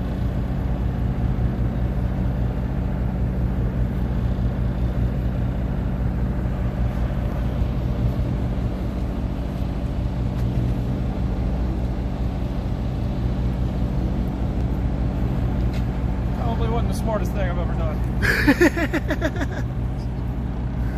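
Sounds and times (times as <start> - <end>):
boat engine running: 0.0 - 20.9.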